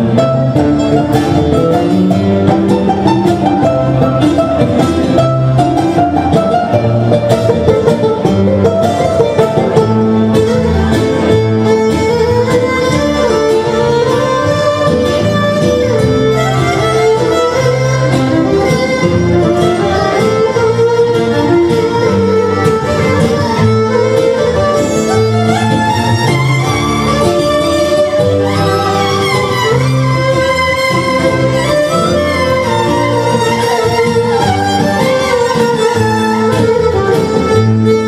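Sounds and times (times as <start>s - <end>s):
strummed acoustic guitar: 0.0s - 38.0s
violins playing dance tune: 0.0s - 38.0s.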